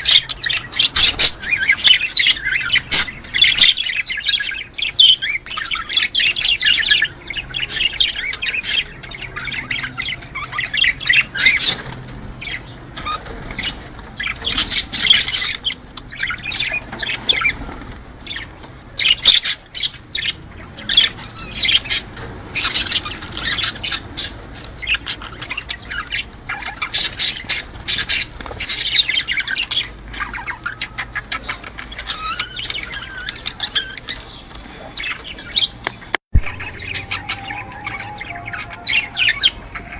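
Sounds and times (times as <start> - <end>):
cage birds chirping and squawking: 0.0 - 39.9.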